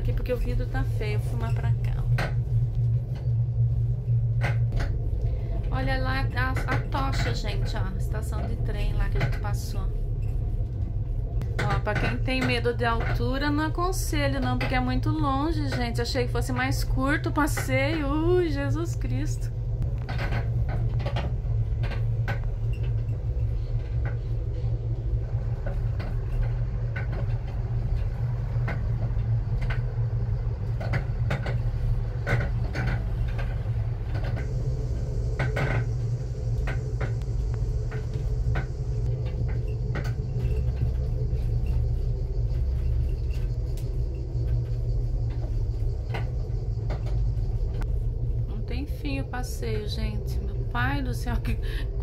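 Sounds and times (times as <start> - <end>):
cable car cabin rumble: 0.0 - 52.0.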